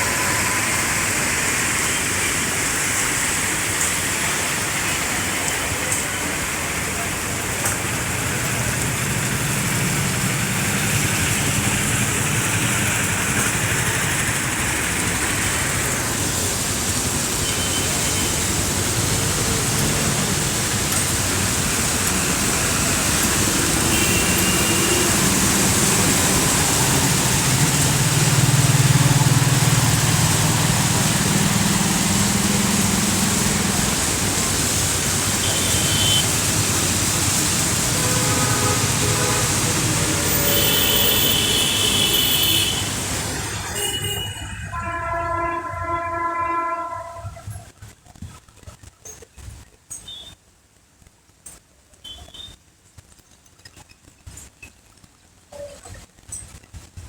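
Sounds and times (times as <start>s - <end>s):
highway traffic passing: 0.0s - 47.5s
rain hiss: 0.0s - 57.0s.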